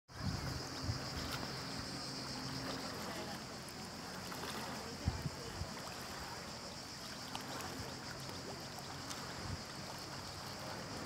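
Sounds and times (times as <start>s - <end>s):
jet ski engine humming: 0.1s - 11.0s.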